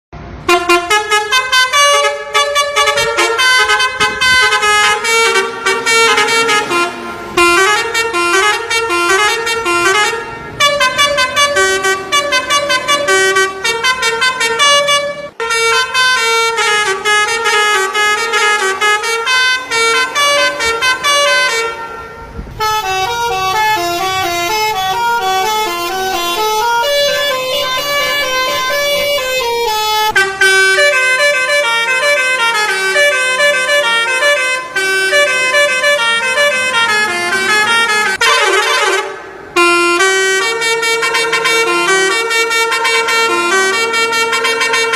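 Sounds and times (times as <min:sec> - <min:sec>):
multi-tone musical bus horn: 0:00.4 - 0:44.9.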